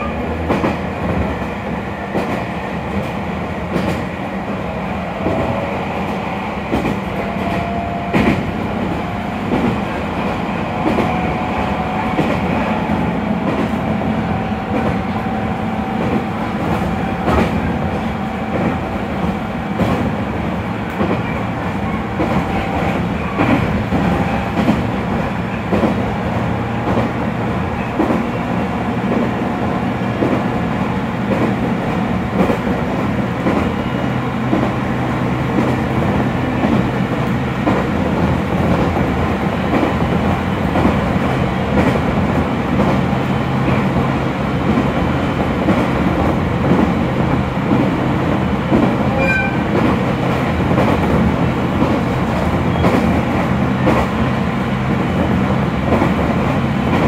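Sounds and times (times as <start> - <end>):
train running hum: 0.0 - 57.0.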